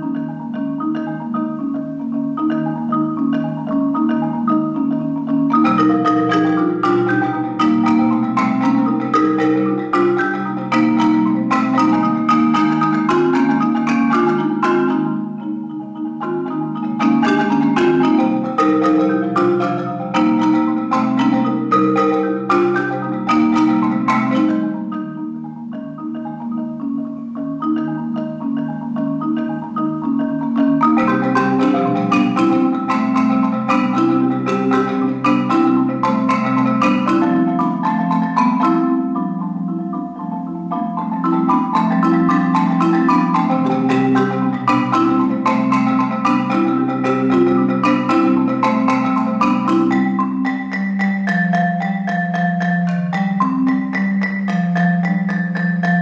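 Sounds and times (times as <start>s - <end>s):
marimba playing: 0.0s - 56.0s.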